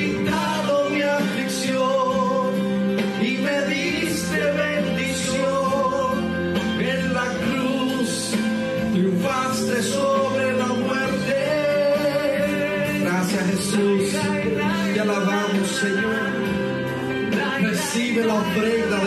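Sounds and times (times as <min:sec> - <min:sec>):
instrumental accompaniment: 0:00.0 - 0:19.0
worship singing: 0:00.0 - 0:19.0.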